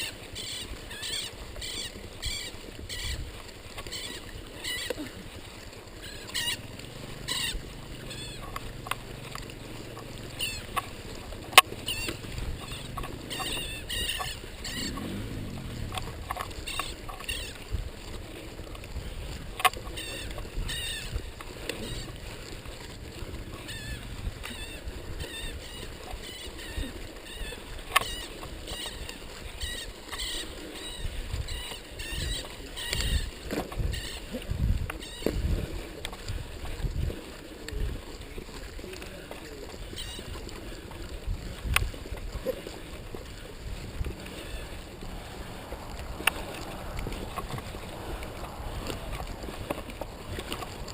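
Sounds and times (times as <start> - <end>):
bike tyres rolling on dirt: 0.0 - 50.9.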